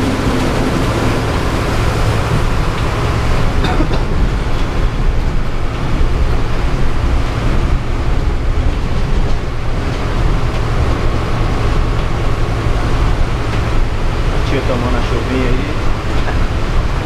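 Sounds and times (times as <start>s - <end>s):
bus engine rumble: 0.0s - 17.0s
heavy rain: 0.0s - 17.0s
tyres hissing on wet road: 0.0s - 17.0s.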